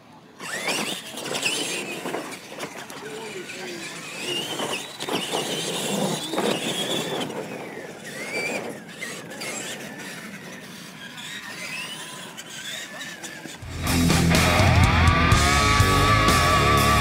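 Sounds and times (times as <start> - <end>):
toy truck motors whining: 0.0 - 17.0.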